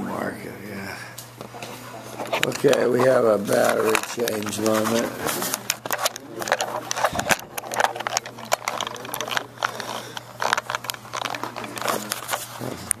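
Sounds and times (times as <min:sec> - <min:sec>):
steady low hum: 0:00.0 - 0:13.0
handling clicks and rustling: 0:02.1 - 0:13.0.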